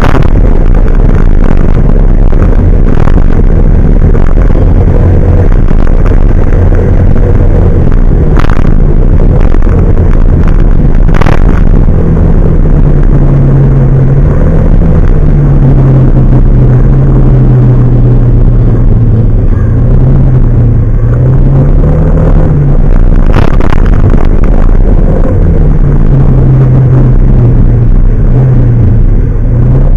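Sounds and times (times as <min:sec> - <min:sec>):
large truck engine running: 0:00.0 - 0:29.9.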